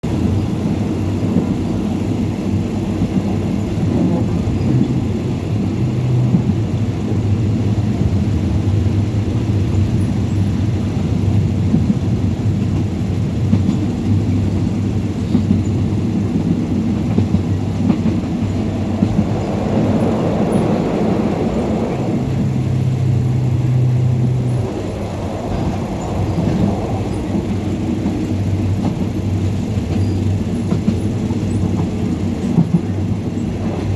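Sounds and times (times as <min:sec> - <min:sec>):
moving vehicle rumble: 0:00.1 - 0:33.9.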